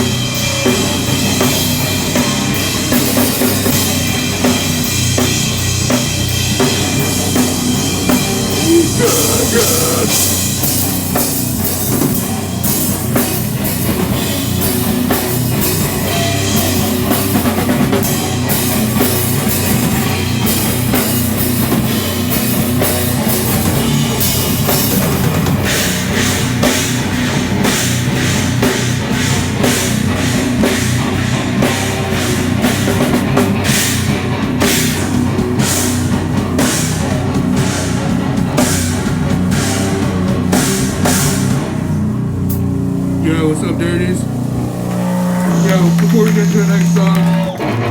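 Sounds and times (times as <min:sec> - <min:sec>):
heavy rock band playing live: 0:00.0 - 0:42.9, 0:44.6 - 0:47.9.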